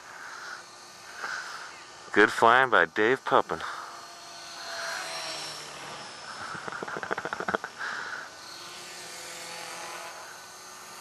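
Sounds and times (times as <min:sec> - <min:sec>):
model helicopter whine: 0:00.0 - 0:11.0.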